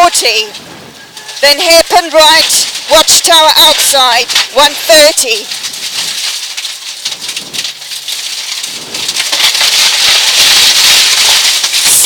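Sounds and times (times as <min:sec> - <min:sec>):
stones pattering on underside: 0:00.0 - 0:12.0
tyres hissing on gravel: 0:00.0 - 0:12.0.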